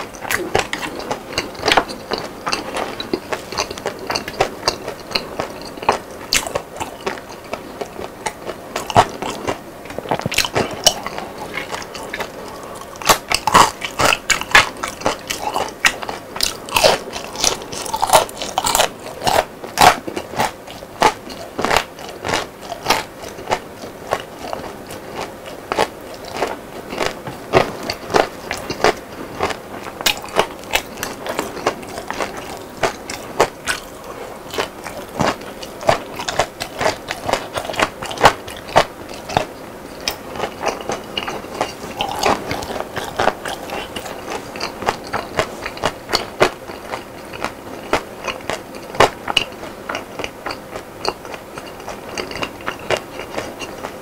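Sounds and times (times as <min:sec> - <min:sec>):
crunchy chewing of fried food: 0:00.0 - 0:54.0.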